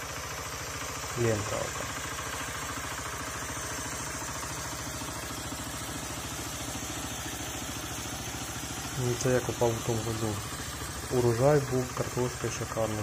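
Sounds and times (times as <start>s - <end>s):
diesel engine running rapid beat: 0.0s - 13.0s.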